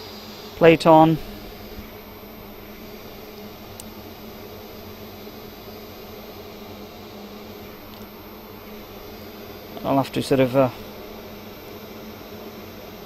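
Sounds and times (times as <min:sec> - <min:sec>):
soldering equipment humming: 0:00.0 - 0:13.0.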